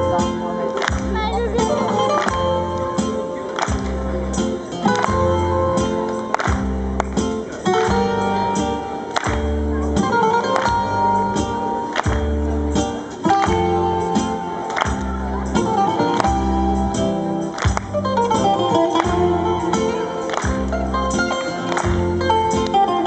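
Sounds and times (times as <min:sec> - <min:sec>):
bouzouki melody: 0:00.0 - 0:23.0.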